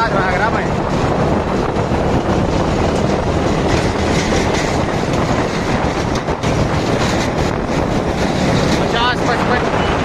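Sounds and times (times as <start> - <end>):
motorcycle engine: 0.0 - 10.0
tractor diesel engine: 0.0 - 10.0
wind rushing over microphone: 0.0 - 10.0.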